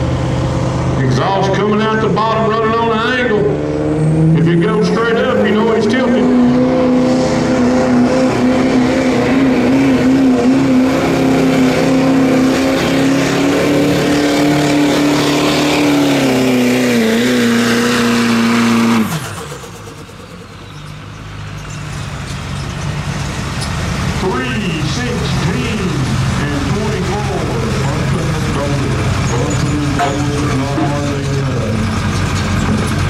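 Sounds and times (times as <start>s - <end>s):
diesel engine at full throttle: 0.0s - 33.0s.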